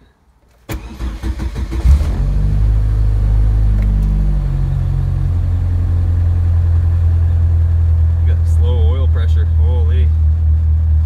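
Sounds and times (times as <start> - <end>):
engine idling: 0.8 - 11.0.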